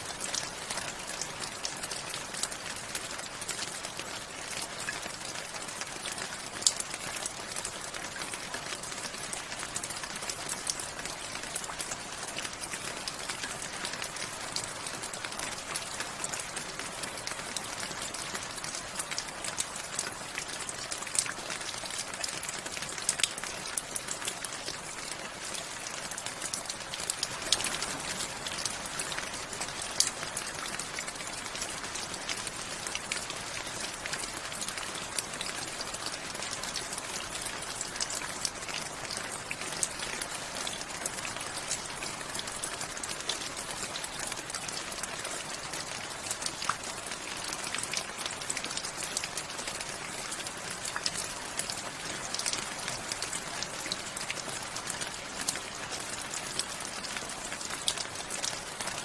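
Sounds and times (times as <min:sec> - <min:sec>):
raindrops ticking on a surface: 0:00.0 - 0:59.0
steady rain hiss: 0:00.0 - 0:59.0.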